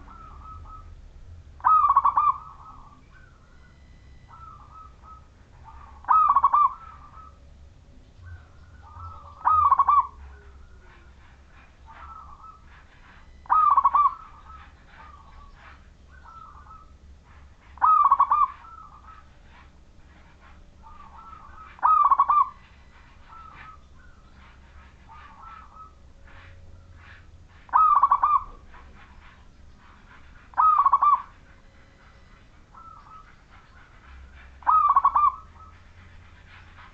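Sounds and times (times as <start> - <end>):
dove cooing: 0.0 - 7.4, 8.2 - 36.9.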